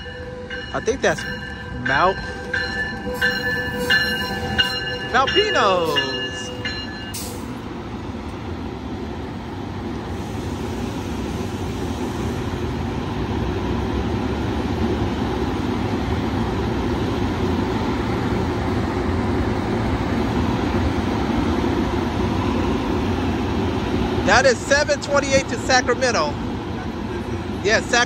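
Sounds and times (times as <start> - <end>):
idling train rumble and hum: 0.0 - 28.0.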